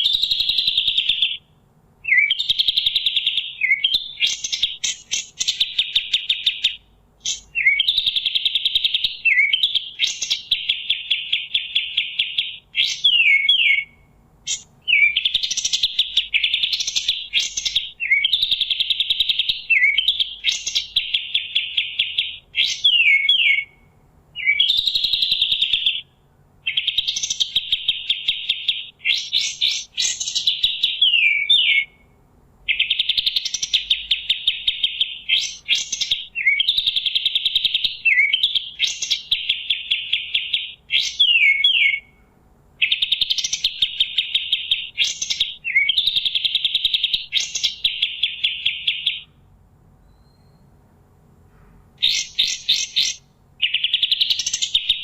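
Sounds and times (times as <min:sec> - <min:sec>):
bird singing rattling trills: 0:00.0 - 0:32.1, 0:32.7 - 0:42.2, 0:42.8 - 0:49.3, 0:50.0 - 0:50.8, 0:52.0 - 0:55.0.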